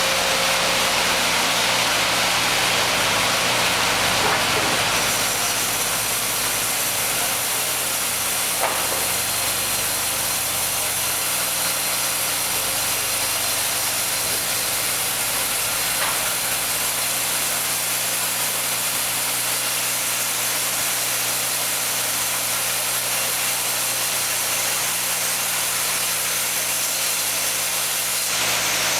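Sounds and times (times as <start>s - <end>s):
sawmill machinery running: 0.0s - 28.9s.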